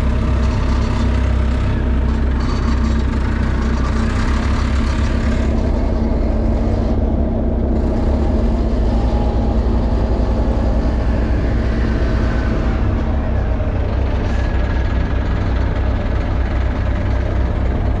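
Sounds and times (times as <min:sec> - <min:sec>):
skid steer engine droning: 0:00.0 - 0:18.0.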